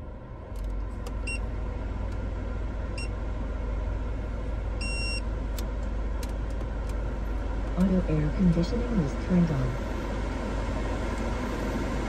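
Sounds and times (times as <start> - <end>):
steady cabin hum: 0.0 - 12.0.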